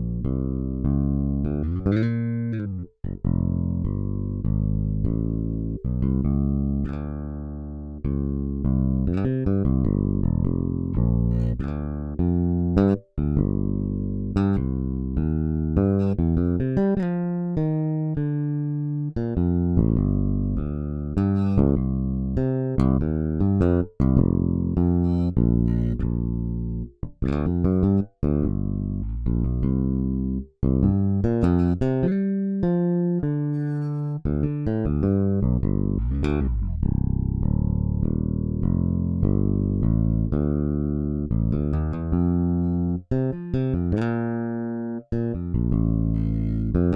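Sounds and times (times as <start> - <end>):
electric bass playing: 0.0 - 46.9.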